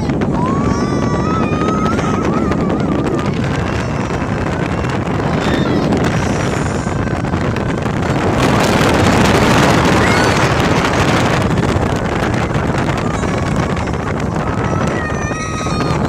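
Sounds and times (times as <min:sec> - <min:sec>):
motorboat engine and hull noise: 0:00.0 - 0:16.0
wind buffeting the microphone: 0:00.0 - 0:16.0.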